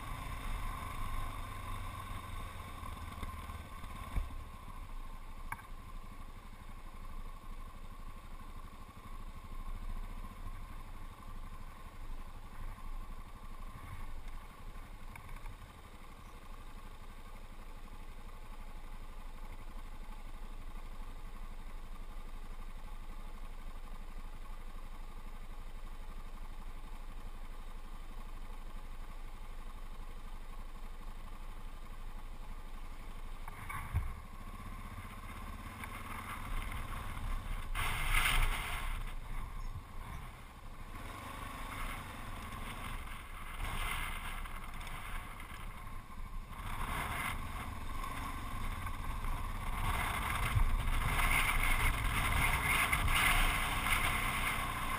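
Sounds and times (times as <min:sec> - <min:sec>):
motorcycle engine idling: 0:00.0 - 0:54.9
motorcycle riding on gravel: 0:00.0 - 0:54.9.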